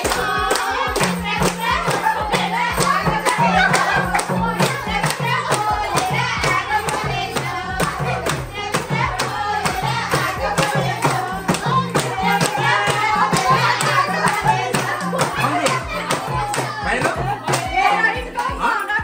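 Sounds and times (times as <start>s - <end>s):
folk song with fast beat: 0.0s - 19.0s
person singing: 0.0s - 19.0s.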